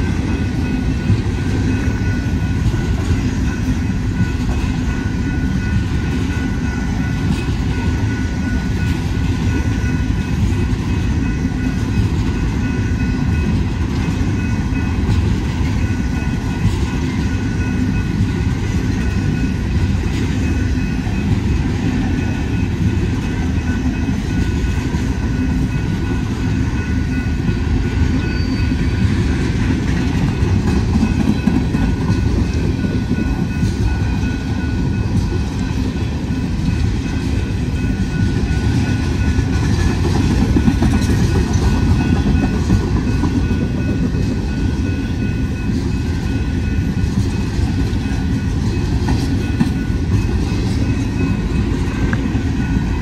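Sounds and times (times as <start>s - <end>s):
freight train wheels rumbling on rail: 0.0s - 53.0s.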